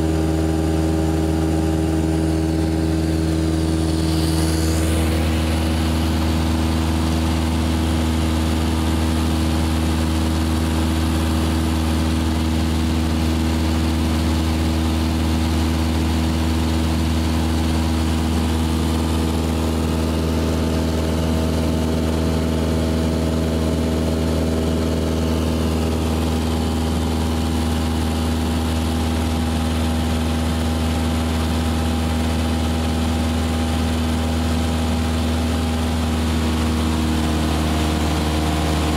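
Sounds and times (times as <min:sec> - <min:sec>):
airplane engine drone: 0:00.0 - 0:38.9.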